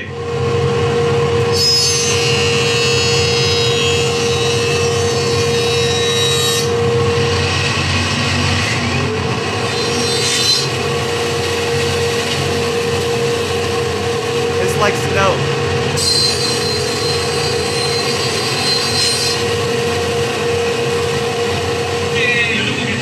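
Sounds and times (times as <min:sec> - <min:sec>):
jointer cutting whine: 0:00.0 - 0:23.0.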